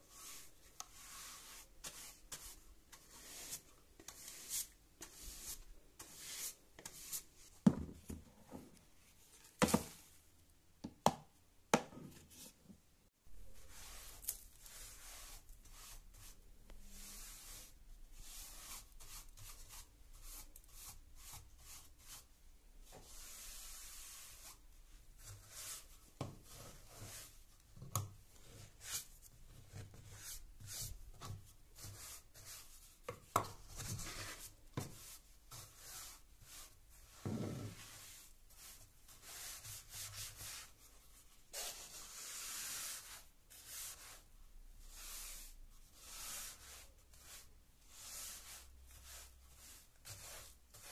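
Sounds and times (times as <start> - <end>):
paint brush sweeping grit on wood: 0.0 - 7.6, 13.4 - 27.5, 28.4 - 33.0, 33.6 - 50.9.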